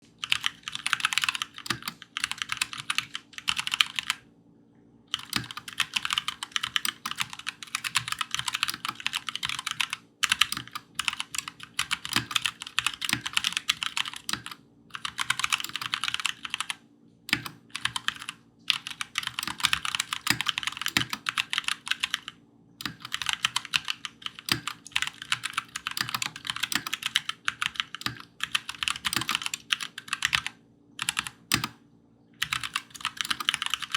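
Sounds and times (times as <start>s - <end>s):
mechanical keyboard typing: 0.2s - 4.2s, 5.1s - 31.8s, 32.4s - 33.9s.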